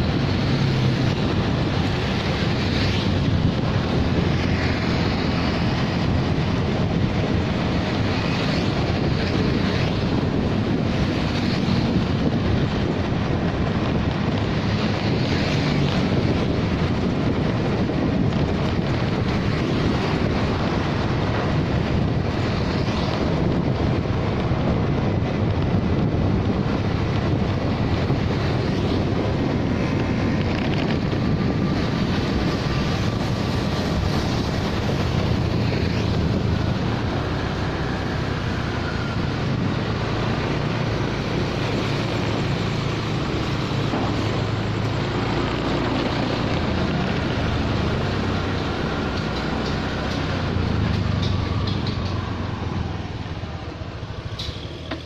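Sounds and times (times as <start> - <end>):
motorcycle engine and road rumble: 0.0 - 55.0
wind buffeting microphone: 0.0 - 55.0.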